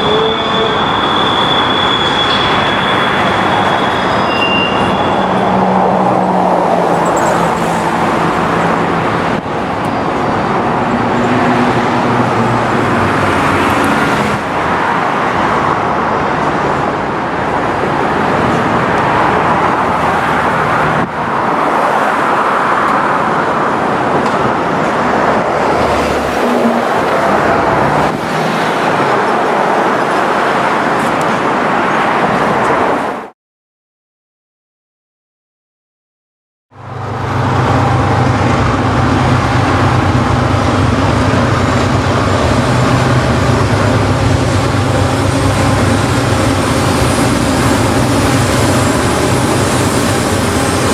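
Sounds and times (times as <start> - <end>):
freight train rumbling past: 0.0 - 33.2, 36.8 - 50.9.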